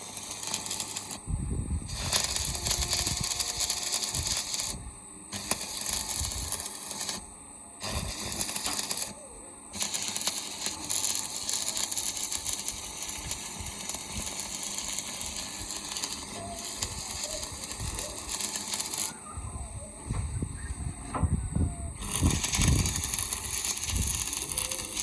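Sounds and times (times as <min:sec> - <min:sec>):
arc welding crackling sizzle: 0:00.0 - 0:19.3, 0:21.8 - 0:25.0.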